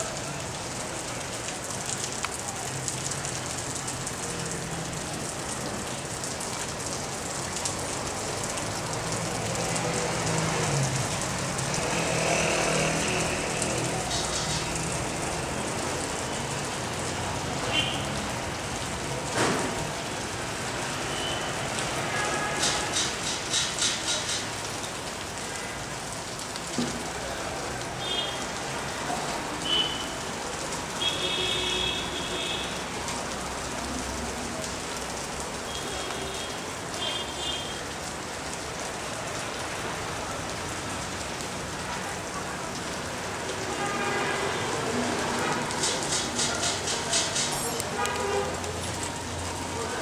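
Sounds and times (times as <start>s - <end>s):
dripping water patter: 0.0s - 50.0s.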